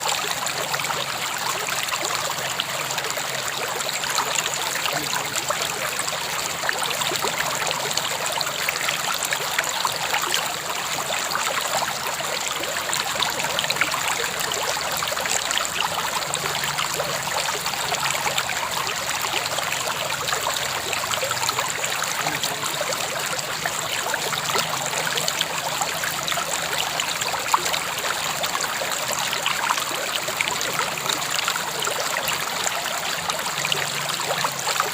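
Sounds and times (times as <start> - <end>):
river water flowing over stones: 0.0 - 34.9.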